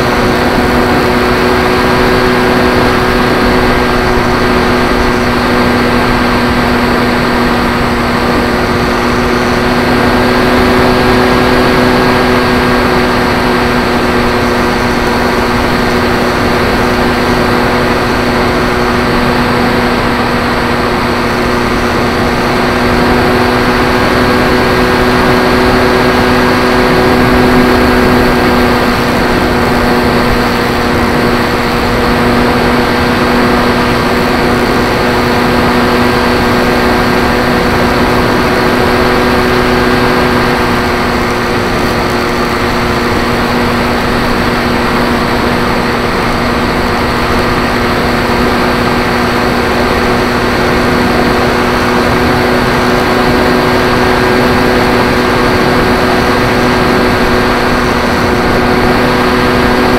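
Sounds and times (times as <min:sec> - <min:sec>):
electric motor and propeller humming: 0:00.0 - 0:59.9
loud rushing noise: 0:00.0 - 0:59.9.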